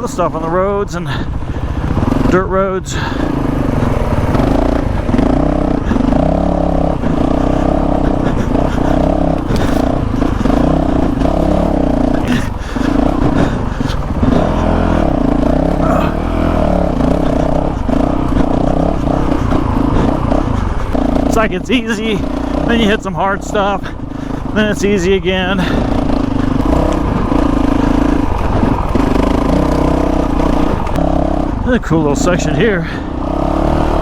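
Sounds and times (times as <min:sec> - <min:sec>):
motorcycle engine pulsing under load: 0:00.0 - 0:34.0.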